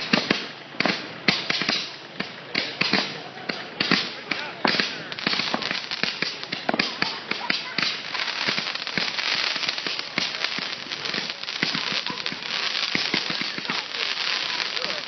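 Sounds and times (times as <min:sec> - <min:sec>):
fireworks hissing: 0:00.0 - 0:15.0
fireworks popping and crackling: 0:00.0 - 0:15.0.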